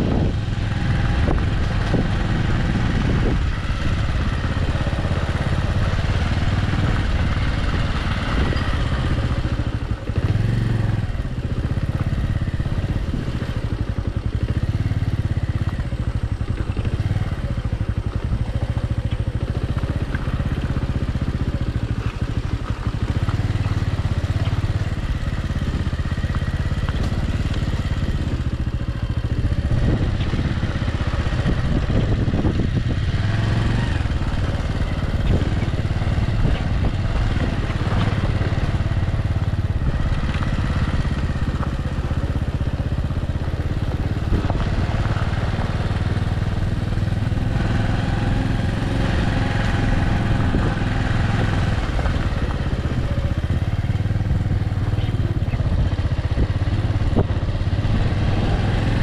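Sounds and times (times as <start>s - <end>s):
road and wind rumble: 0.0s - 59.0s
vehicle engine drone: 0.0s - 59.0s.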